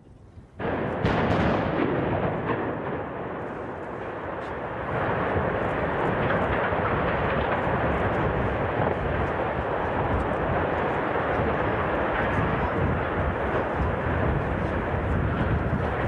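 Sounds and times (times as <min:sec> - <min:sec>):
explosive blasts: 0:00.6 - 0:16.0
heavy rumble of collapsing structure: 0:00.6 - 0:16.0.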